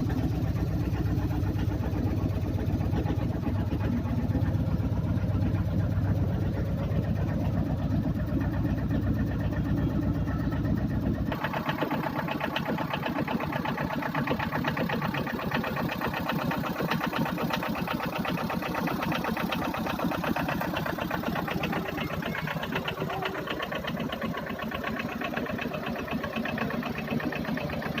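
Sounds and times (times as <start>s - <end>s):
mini-truck engine idling: 0.0s - 28.0s.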